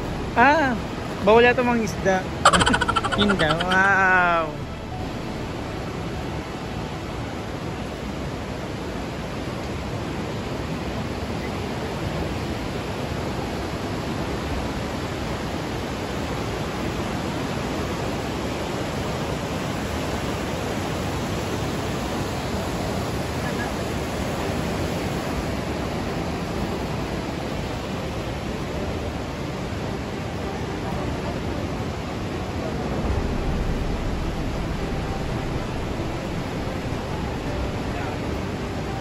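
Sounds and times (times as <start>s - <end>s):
river rapids rushing: 0.0s - 39.0s.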